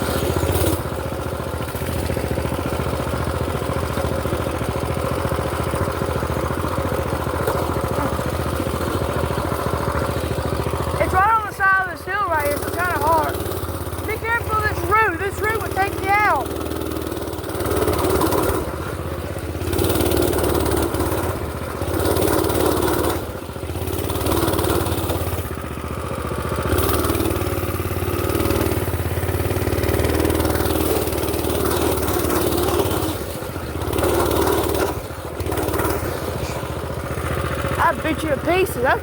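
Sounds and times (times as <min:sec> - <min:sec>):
small motorbike engine revving: 0:00.0 - 0:39.0.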